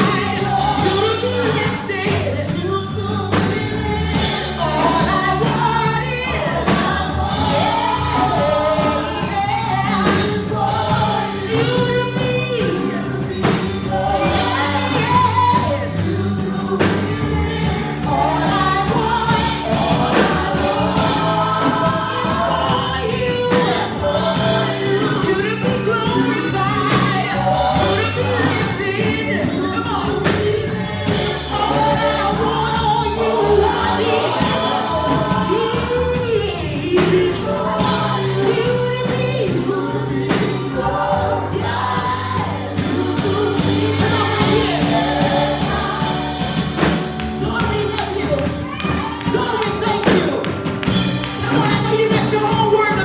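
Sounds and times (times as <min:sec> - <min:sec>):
gospel band with drums: 0:00.0 - 0:53.0
people singing: 0:00.0 - 0:53.0.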